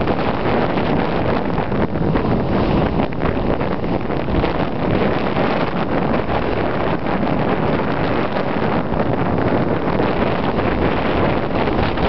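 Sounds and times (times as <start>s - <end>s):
hull moving through choppy water: 0.0s - 12.0s
wind buffeting microphone: 0.0s - 12.0s.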